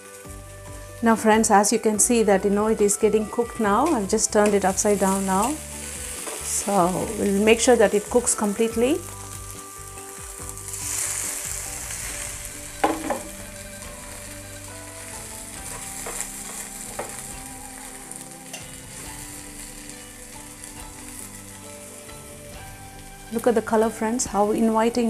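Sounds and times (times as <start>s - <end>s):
sandwiches sizzling in pan: 0.0s - 1.8s, 4.1s - 23.7s.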